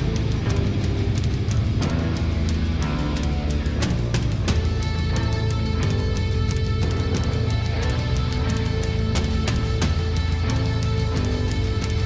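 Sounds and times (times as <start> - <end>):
heavy metal music: 0.0 - 12.0.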